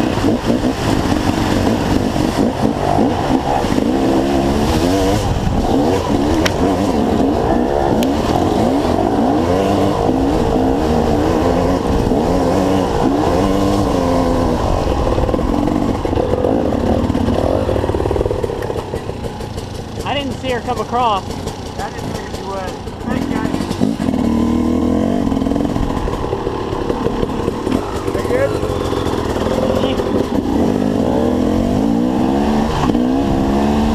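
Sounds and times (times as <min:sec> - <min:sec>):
dirt bike engine revving: 0:00.0 - 0:33.9.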